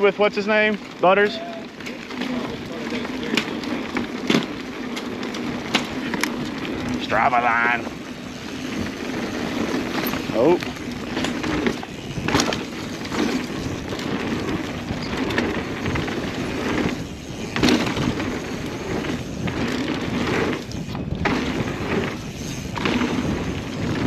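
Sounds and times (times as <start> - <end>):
bike tyres rolling on dirt: 0.0 - 24.0
bike knocks and rattles: 1.6 - 24.0.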